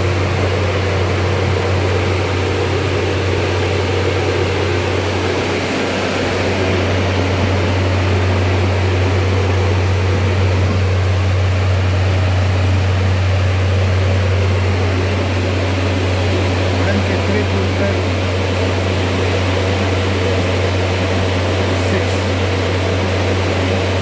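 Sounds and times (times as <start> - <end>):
refrigeration unit humming: 0.0 - 24.0.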